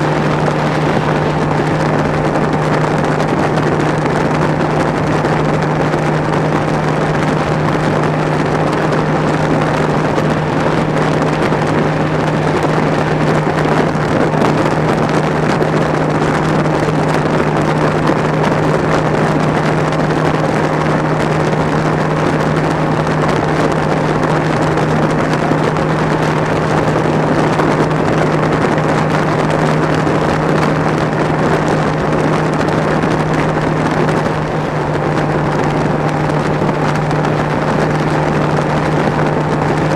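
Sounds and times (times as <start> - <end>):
outboard motor at high speed: 0.0 - 39.9
rush of wind and water: 0.0 - 39.9.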